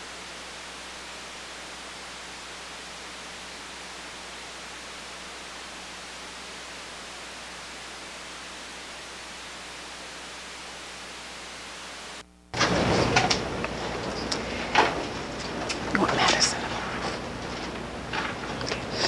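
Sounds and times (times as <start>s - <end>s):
faint low hum: 0.0s - 19.0s
recording hiss: 0.0s - 19.0s.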